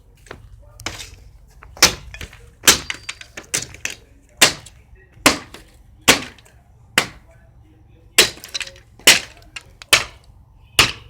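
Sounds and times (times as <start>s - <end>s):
campfire wood cracking: 0.2s - 7.3s, 8.2s - 11.0s.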